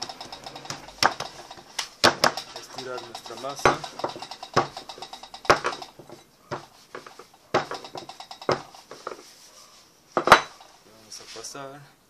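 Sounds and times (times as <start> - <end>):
rolling pin knocking on table: 0.0 - 9.2, 10.2 - 10.6.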